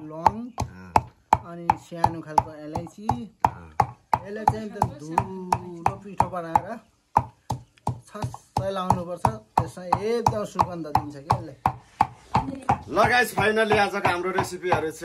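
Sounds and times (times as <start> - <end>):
wooden pestle pounding in mortar: 0.0 - 15.0.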